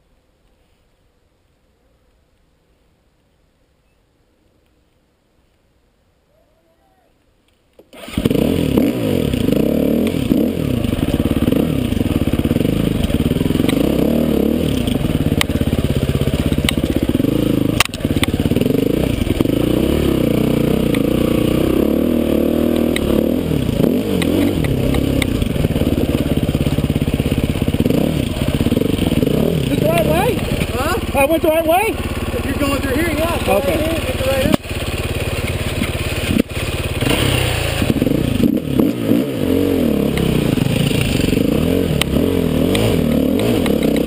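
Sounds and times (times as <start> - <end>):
dirt bike engine revving: 7.9 - 44.0.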